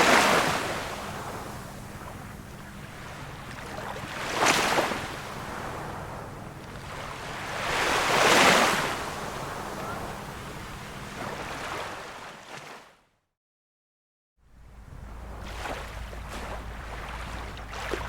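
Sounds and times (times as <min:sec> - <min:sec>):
small waves washing in: 0:00.0 - 0:12.8, 0:14.6 - 0:18.0.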